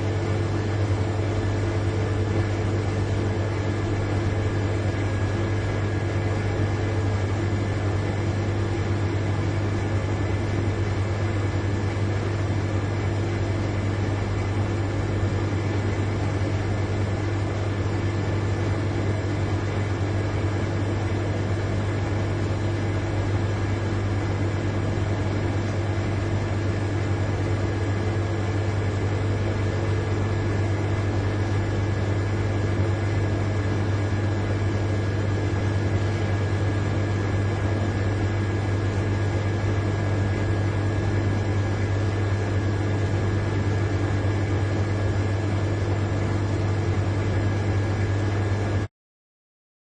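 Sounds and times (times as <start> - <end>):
refrigerator compressor humming: 0.0 - 48.9.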